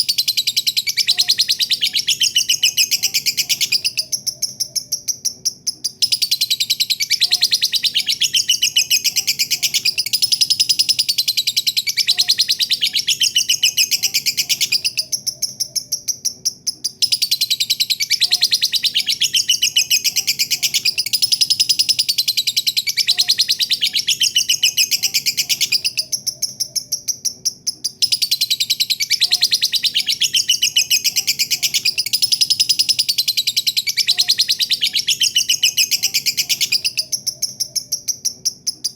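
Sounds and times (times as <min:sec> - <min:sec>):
lovebird chattering trill: 0:00.0 - 0:38.9.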